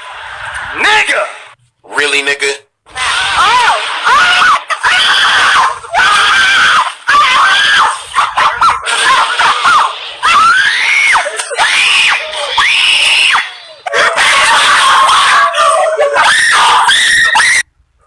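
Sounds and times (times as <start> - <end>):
high-pitched screams: 2.9 - 17.7.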